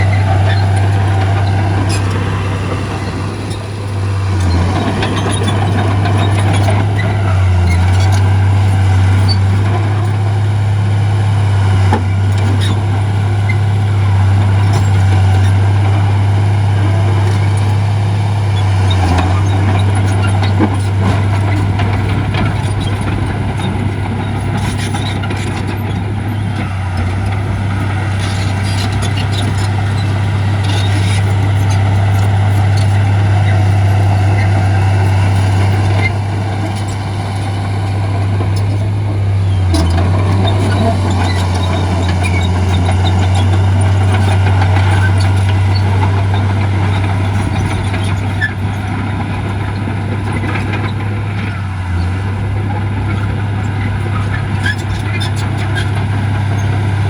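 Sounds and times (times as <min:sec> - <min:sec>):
diesel machinery engine drone: 0:00.0 - 0:57.0
machinery clanks and rattles: 0:00.0 - 0:57.0.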